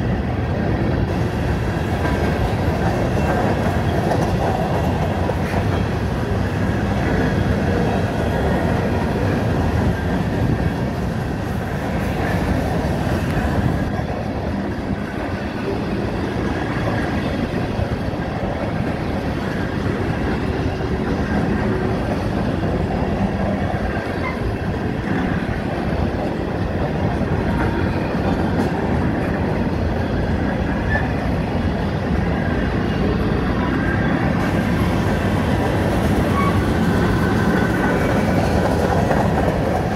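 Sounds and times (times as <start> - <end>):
steel wheels rumbling on rails: 0.0 - 39.9.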